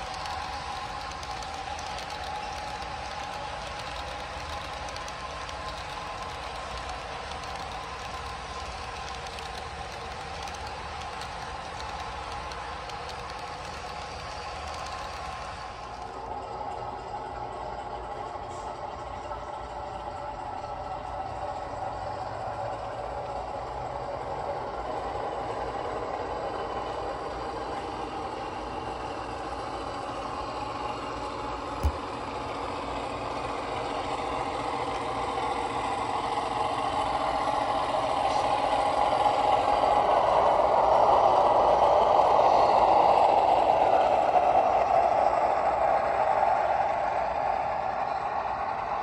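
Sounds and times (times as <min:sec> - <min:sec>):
model train rolling: 0:00.0 - 0:49.0.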